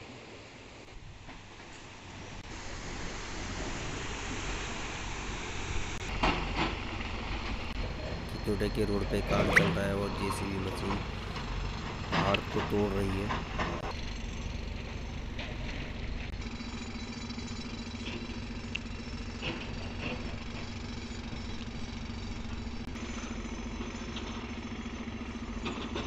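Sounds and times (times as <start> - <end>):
earthmover engine running: 0.1 - 26.0.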